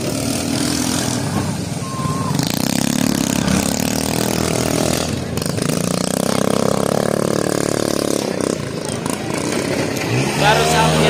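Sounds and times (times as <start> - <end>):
scooter engines revving: 0.0 - 11.0.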